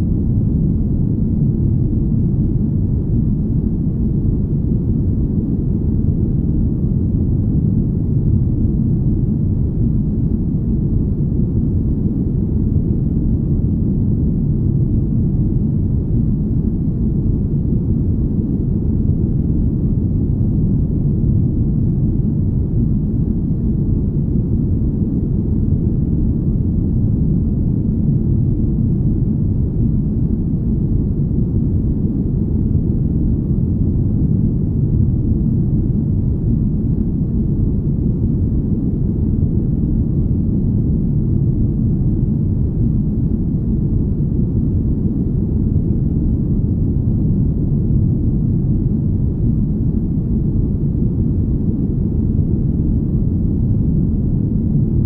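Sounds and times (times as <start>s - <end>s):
deep smooth rumble: 0.0s - 55.0s.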